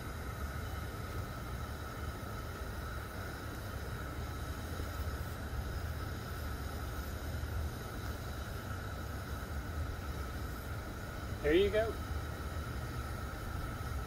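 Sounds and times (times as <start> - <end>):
propane burner hissing: 0.0 - 14.0.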